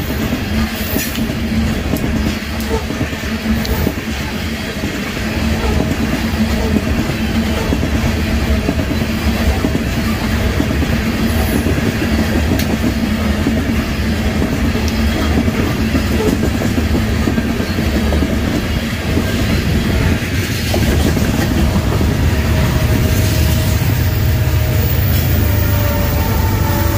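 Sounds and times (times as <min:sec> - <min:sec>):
freight train rumbling past: 0:00.0 - 0:26.9.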